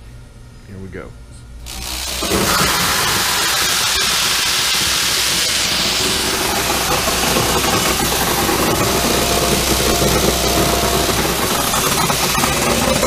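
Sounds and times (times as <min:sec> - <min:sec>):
low machine hum: 0:00.0 - 0:13.0
popcorn kernels pouring down chutes: 0:01.7 - 0:13.0.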